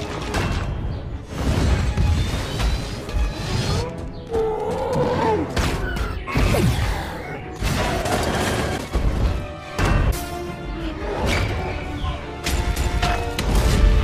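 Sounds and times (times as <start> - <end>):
dramatic music: 0.0 - 14.0.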